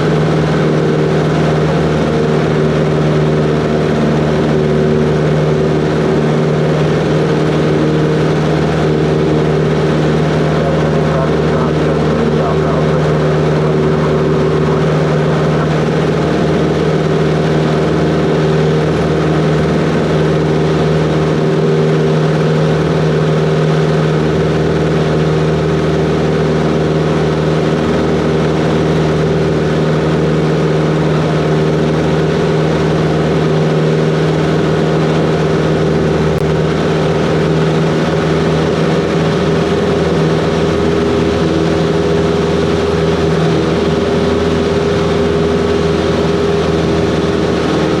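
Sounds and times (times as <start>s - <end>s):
propeller plane engine droning: 0.0s - 48.0s.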